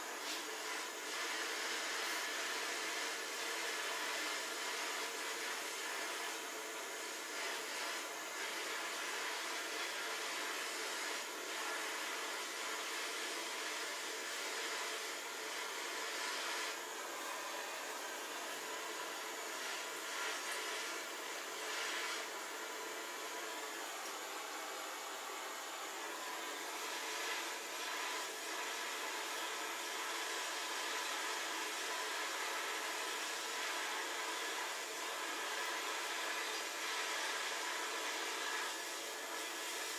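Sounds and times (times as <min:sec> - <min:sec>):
gas torch hissing: 0:00.0 - 0:39.9.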